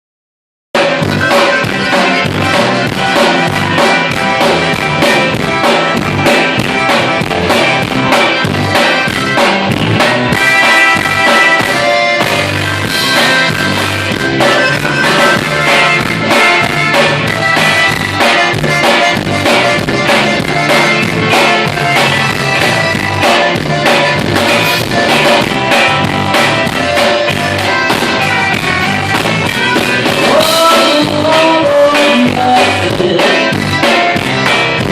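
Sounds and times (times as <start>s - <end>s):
drum kit beat: 0.8s - 34.9s
guitar: 0.8s - 34.9s.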